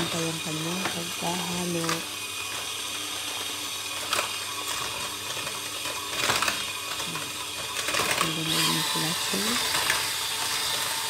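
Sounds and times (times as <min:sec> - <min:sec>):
electric mixer whisking: 0:00.0 - 0:11.0.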